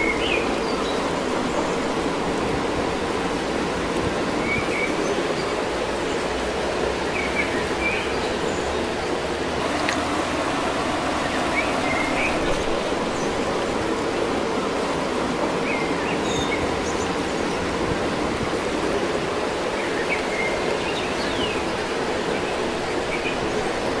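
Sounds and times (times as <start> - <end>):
steady rushing ambience: 0.0 - 24.0.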